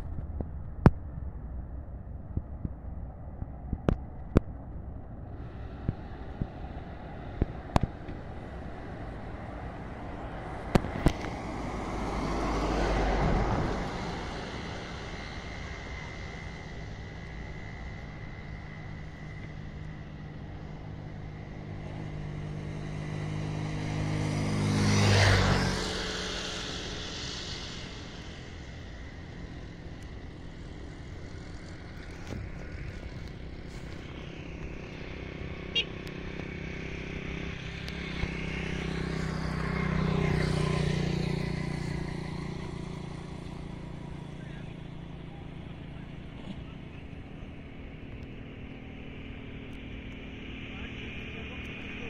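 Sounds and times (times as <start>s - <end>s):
steady rumble: 0.0s - 52.0s
vehicles passing by: 0.0s - 52.0s.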